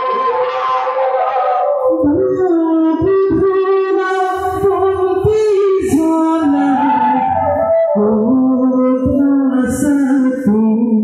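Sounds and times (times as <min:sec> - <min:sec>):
sustained devotional melody: 0:00.0 - 0:11.0.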